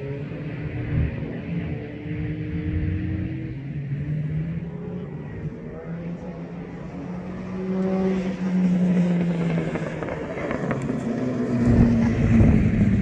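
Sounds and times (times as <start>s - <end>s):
distant racing car engine: 0.0s - 13.0s.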